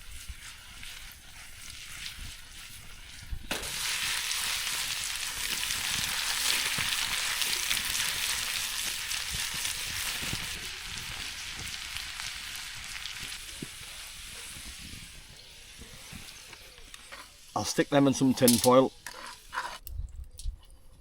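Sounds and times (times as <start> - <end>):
food sizzling in a pan: 0.0 - 19.8.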